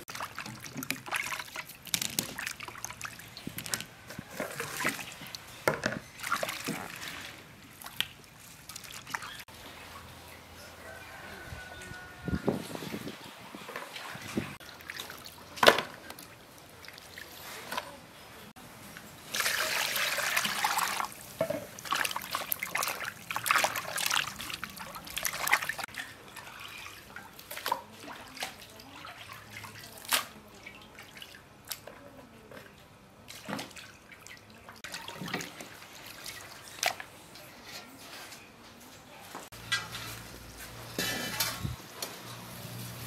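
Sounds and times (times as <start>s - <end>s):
water sloshing in a bowl: 0.0s - 18.2s, 18.9s - 38.3s.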